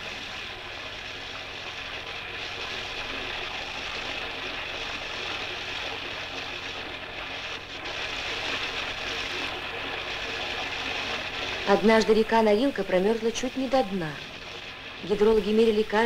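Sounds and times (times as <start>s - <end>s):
water rushing and spraying: 0.0s - 16.0s.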